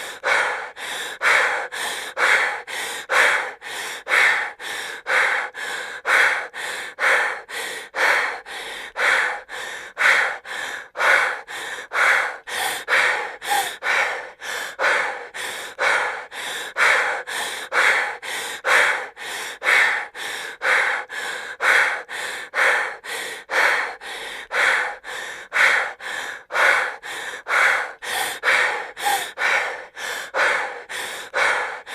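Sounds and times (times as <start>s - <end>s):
woman breathing heavily: 0.0s - 31.9s.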